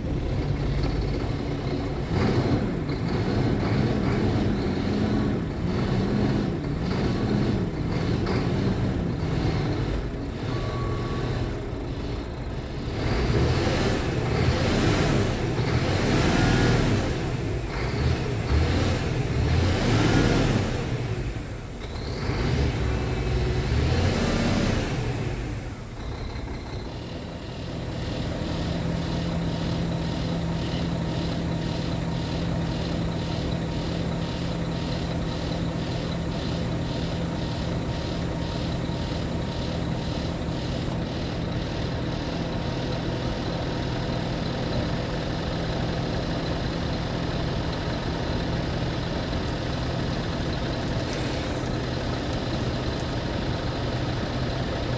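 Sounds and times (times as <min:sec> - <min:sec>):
truck diesel engine revving and idling: 0:00.0 - 0:54.9.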